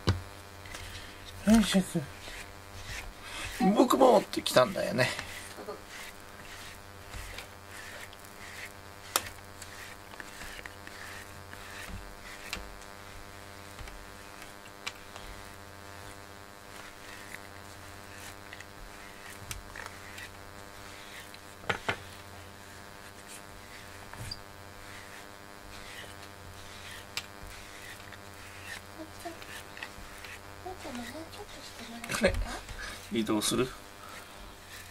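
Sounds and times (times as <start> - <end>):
steady low hum: 0.0 - 34.9
brush rustling through fur: 0.7 - 34.9.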